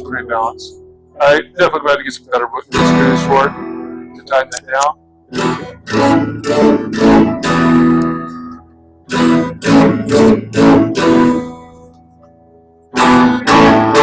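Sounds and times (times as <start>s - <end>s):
electric guitar strumming: 0.0s - 14.0s.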